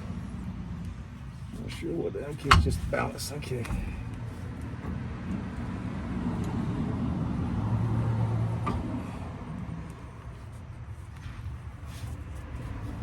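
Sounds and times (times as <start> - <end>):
motor vehicle hum: 0.0 - 13.0.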